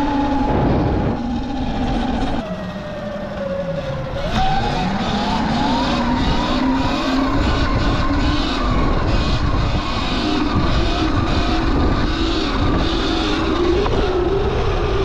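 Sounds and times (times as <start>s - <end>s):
electric motorbike motor whining: 0.0s - 15.0s
road and wind rumble: 0.0s - 15.0s.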